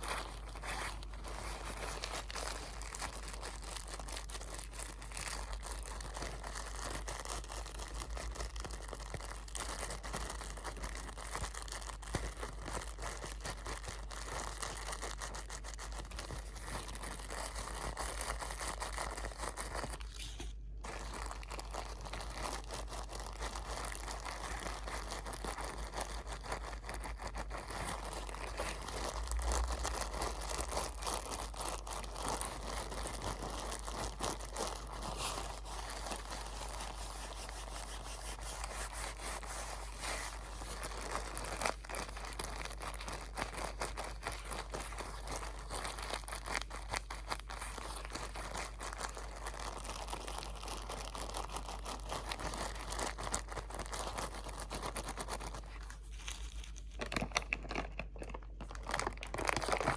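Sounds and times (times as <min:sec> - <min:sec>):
crinkly material crumpling: 0:00.0 - 0:59.9.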